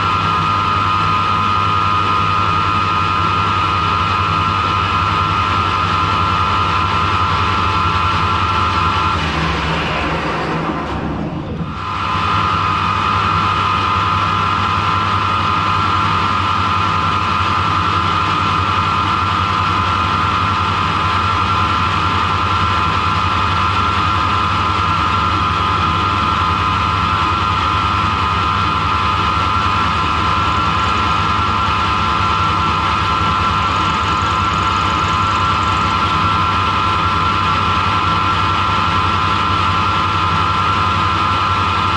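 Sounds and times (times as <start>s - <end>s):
lathe whining and humming: 0.0s - 41.9s.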